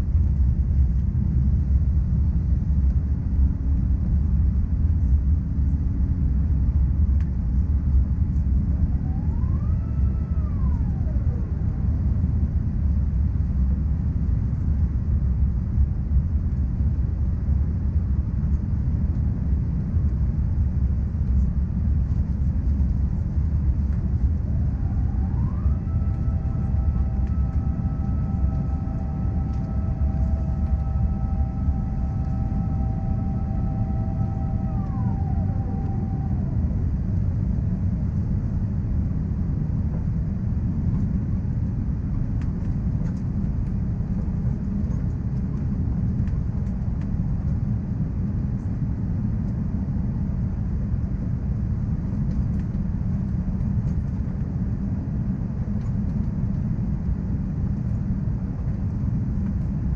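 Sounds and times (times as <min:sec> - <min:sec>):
mechanical whine: 0:00.0 - 0:49.7
airplane cabin rumble: 0:00.0 - 0:59.9.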